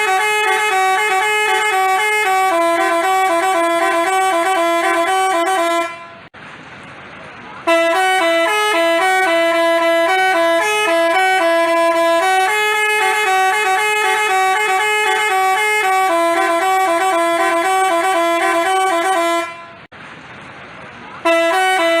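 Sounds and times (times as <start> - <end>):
bus horn playing a tune: 0.0 - 6.3, 7.6 - 19.9, 21.2 - 22.0.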